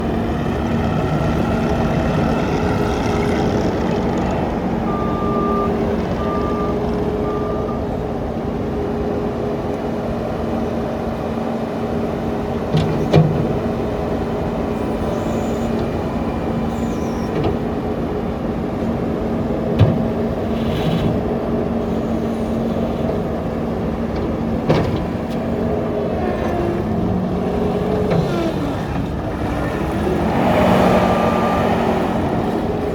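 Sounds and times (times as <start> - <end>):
diesel engine running: 0.0 - 20.6, 21.4 - 32.9.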